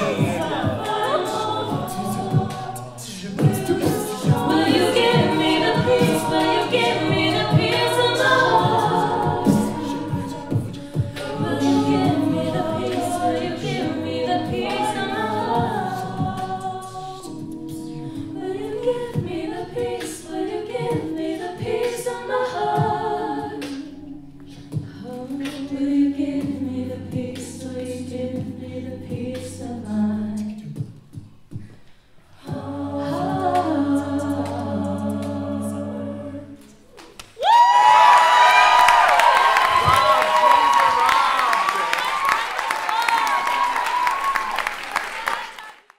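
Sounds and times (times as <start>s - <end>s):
backing vocal chords: 0.0s - 36.8s.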